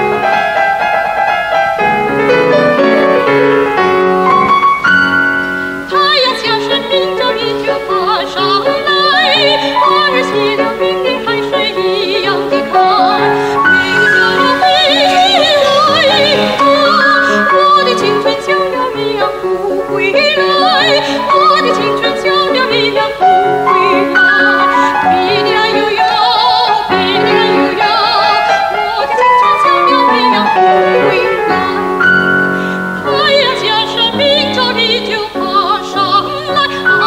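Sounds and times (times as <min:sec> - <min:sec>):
instrumental accompaniment: 0:00.0 - 0:37.0
soprano singing operatically: 0:05.8 - 0:37.0.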